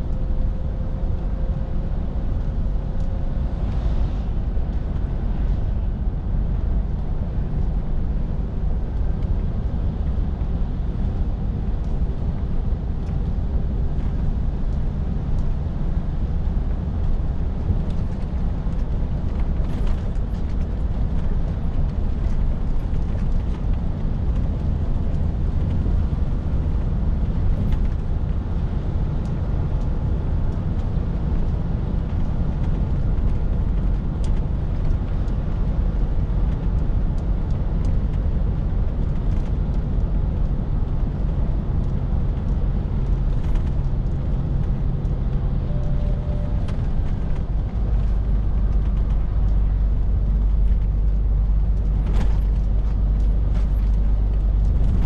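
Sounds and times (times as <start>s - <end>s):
lorry diesel engine droning: 0.0s - 55.0s
road and tyre noise: 0.0s - 55.0s.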